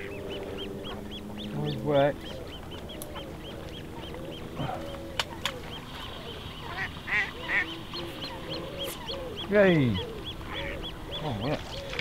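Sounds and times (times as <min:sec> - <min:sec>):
waterfowl calling: 0:00.0 - 0:12.0.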